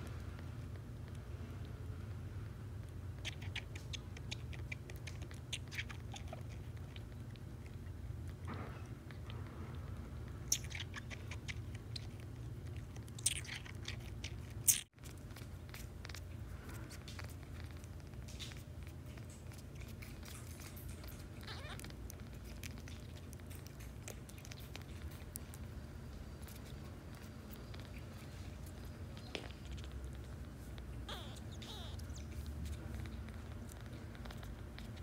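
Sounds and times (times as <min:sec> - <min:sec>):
kitten suckling: 0:00.0 - 0:35.0
steady low hum: 0:00.0 - 0:35.0.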